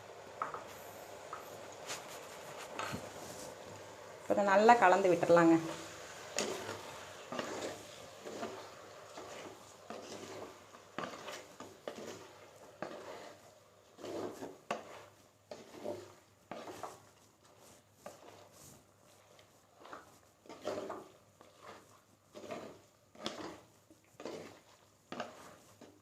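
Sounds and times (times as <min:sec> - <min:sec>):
spoon stirring in a pan: 0:00.0 - 0:26.0
spoon scraping and knocking pan: 0:00.3 - 0:26.0.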